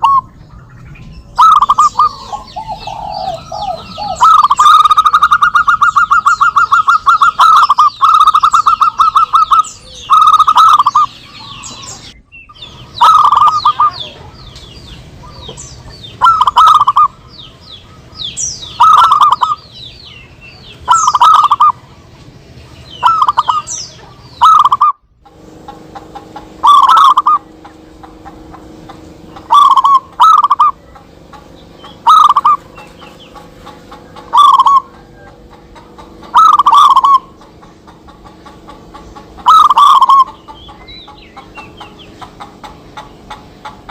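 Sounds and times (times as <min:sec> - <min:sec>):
doves cooing: 0:00.0 - 0:00.4, 0:01.0 - 0:19.6, 0:20.8 - 0:21.8, 0:23.0 - 0:43.9
high twittering chirps: 0:00.0 - 0:43.9.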